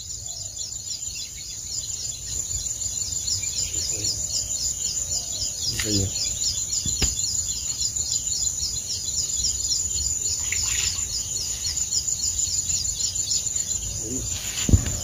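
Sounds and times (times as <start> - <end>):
high-pitched pulsing chirping: 1.0 - 15.0.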